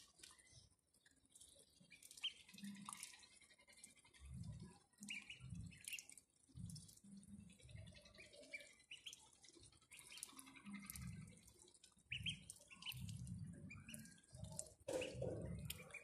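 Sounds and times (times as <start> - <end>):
ducklings slurping water: 0.0 - 16.0.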